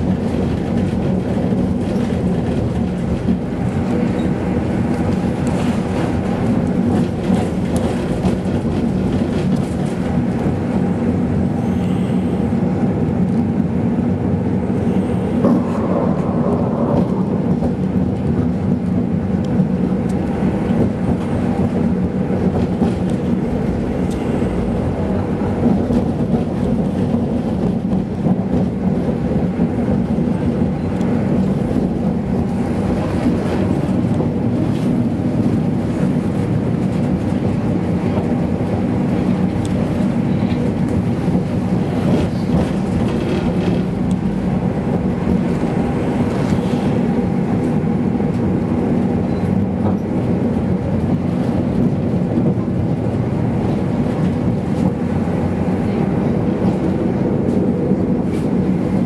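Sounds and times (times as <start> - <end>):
tram rumbling on rails: 0.0 - 59.0.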